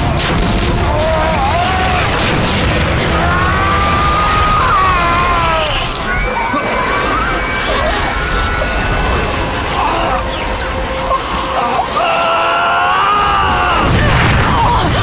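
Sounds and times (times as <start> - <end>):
orchestral score: 0.0 - 15.0.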